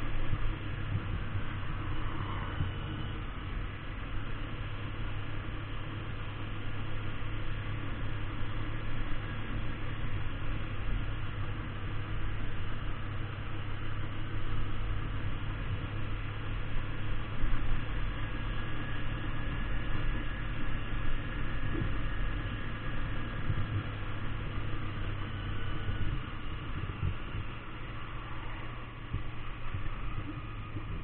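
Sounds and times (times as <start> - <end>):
motorcycle engine drone: 0.0 - 31.0
wind and road noise: 0.0 - 31.0.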